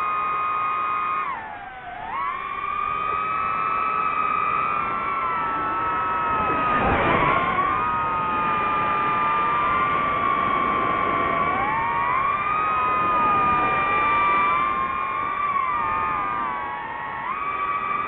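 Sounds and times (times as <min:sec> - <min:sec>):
drone propeller motors whining: 0:00.0 - 0:18.0.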